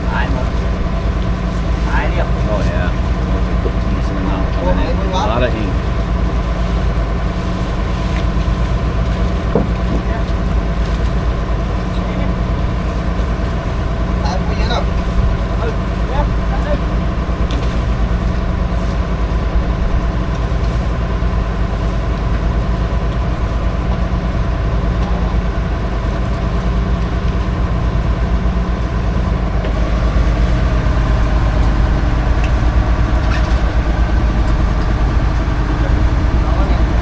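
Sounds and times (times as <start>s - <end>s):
boat engine throbbing: 0.0s - 37.0s.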